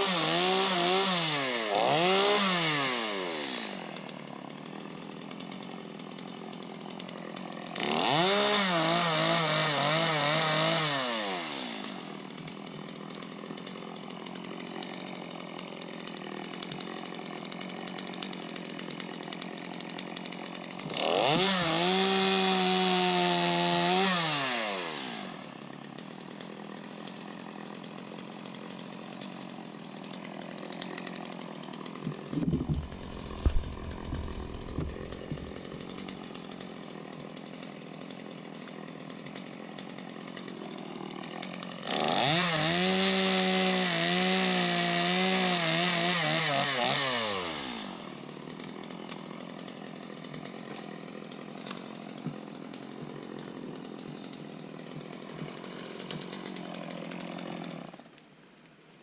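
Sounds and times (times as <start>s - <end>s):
chainsaw idling and revving: 0.0s - 58.4s.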